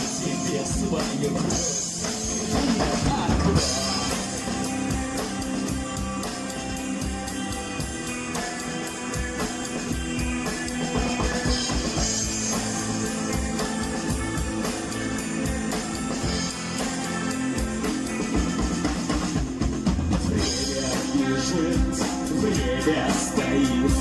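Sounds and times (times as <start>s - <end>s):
drum kit beat: 0.0s - 24.0s
guitar: 0.0s - 24.0s
rock band playing: 0.0s - 24.0s.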